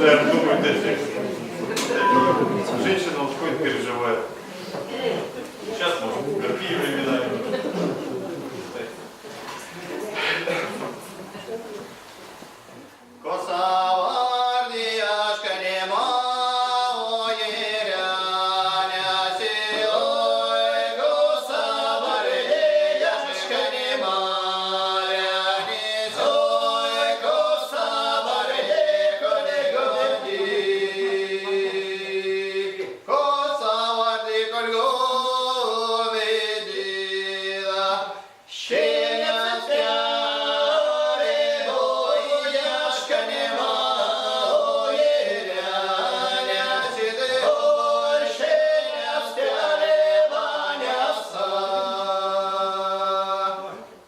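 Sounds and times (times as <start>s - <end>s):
group singing folk song in harmony: 0.0s - 54.0s.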